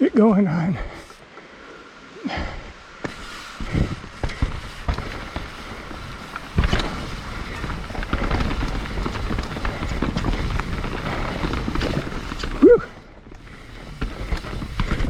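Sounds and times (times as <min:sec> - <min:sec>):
wheels rumbling on dirt: 0:00.0 - 0:15.0
bike knocks and rattles: 0:02.4 - 0:15.0.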